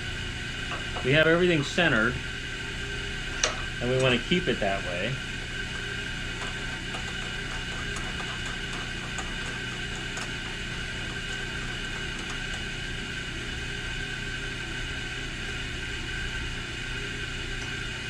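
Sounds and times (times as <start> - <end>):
machine motor humming and whining: 0.0 - 18.0.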